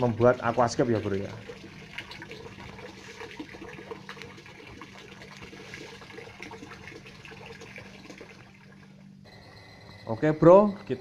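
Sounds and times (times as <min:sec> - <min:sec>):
water trickling and splashing: 0:00.0 - 0:09.2
low steady hum: 0:00.0 - 0:11.0.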